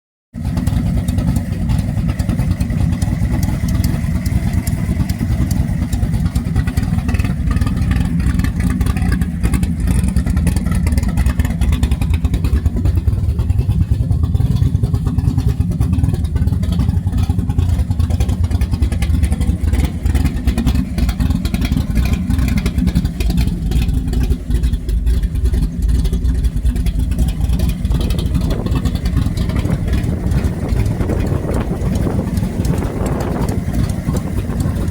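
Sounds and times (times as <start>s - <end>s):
engine running: 0.4s - 34.9s
exhaust leak ticking puff: 0.4s - 34.9s.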